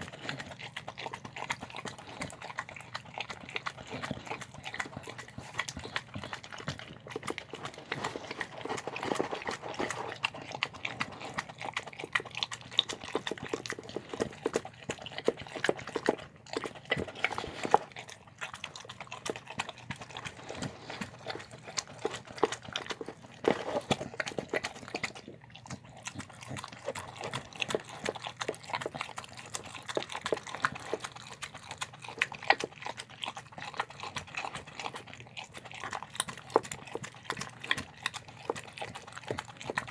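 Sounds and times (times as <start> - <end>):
dog chewing wet smacks: 0.0 - 39.9.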